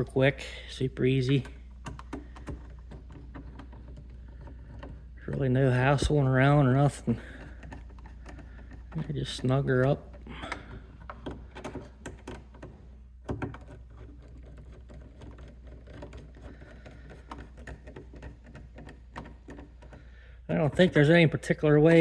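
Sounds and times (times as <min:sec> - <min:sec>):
hex driver and bolts clicking: 0:00.0 - 0:21.9.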